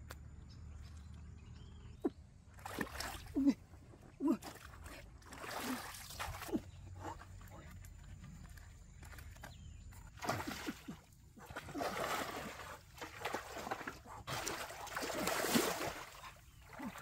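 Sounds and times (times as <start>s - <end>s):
water splashing and sloshing: 2.3s - 17.0s.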